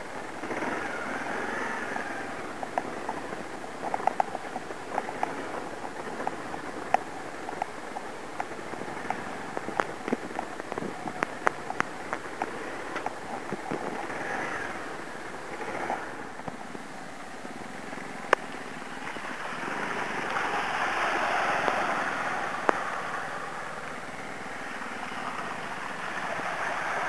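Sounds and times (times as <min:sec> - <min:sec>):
sharp clicks and ticks: 0:00.0 - 0:16.9, 0:17.6 - 0:27.0
motorcycle engine and tyre noise: 0:00.0 - 0:27.0.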